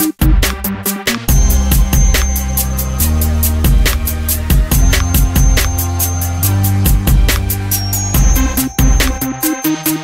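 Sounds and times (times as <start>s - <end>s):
heavy bass line: 0.0s - 9.6s
electronic dance music: 0.0s - 10.0s
quick hi-hat beat: 0.0s - 10.0s.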